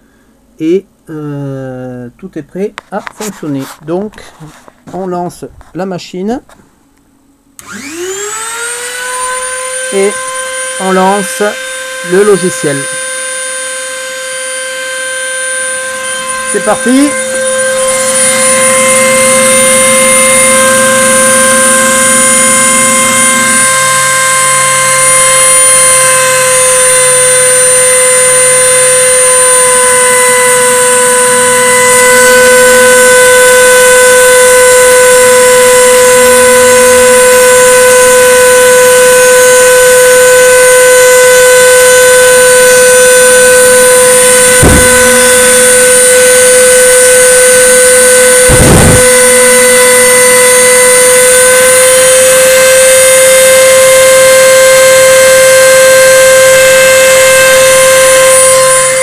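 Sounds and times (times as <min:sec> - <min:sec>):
router spindle whine: 0:07.6 - 0:59.0.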